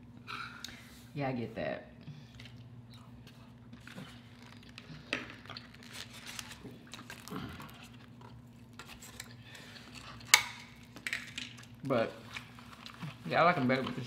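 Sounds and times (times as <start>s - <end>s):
soft chewing: 2.0s - 14.0s.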